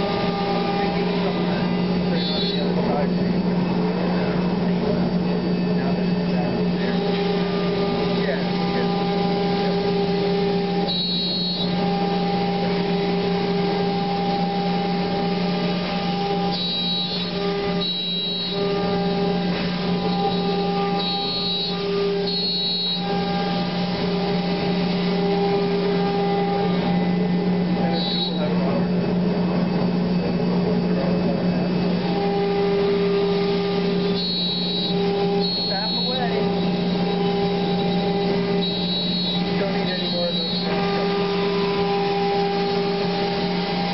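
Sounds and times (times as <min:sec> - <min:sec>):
cnc router humming: 0:00.0 - 0:43.9
high steady tone: 0:00.0 - 0:43.9
high-pitched whine: 0:00.0 - 0:43.9.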